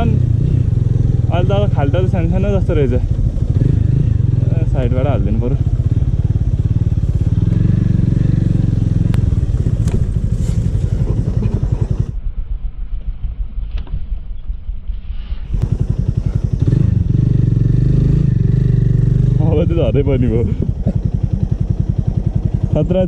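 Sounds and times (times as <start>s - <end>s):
motorcycle engine running: 0.0s - 14.9s, 15.5s - 23.0s.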